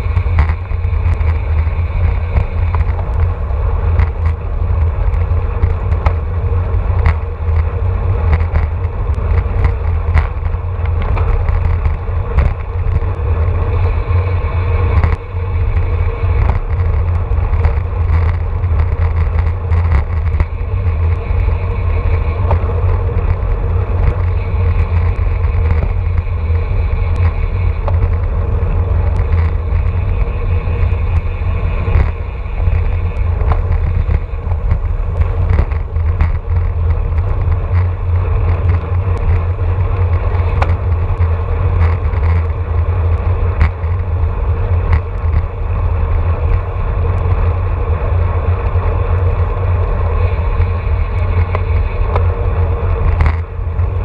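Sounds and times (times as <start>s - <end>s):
bike clicks and knocks: 0.0s - 54.0s
tyre and road rumble: 0.0s - 54.0s
wind buffeting microphone: 0.0s - 54.0s.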